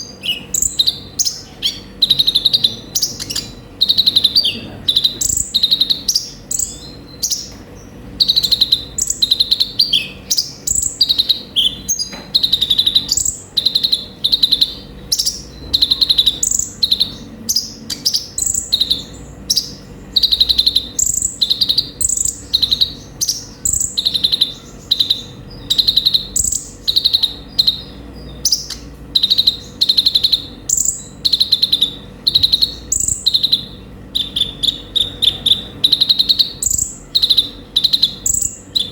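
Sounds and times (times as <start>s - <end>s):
bird singing trilled phrases: 0.0s - 38.9s.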